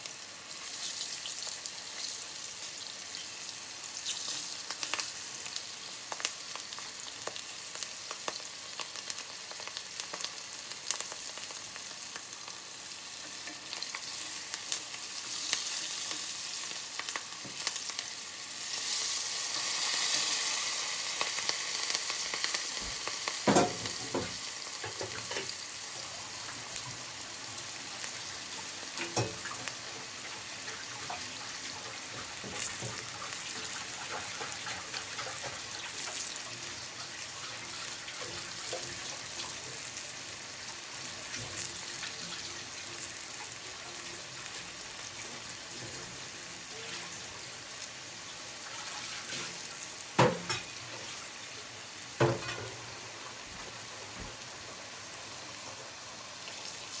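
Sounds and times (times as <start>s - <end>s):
sauce sizzling in a frying pan: 0.0s - 57.0s.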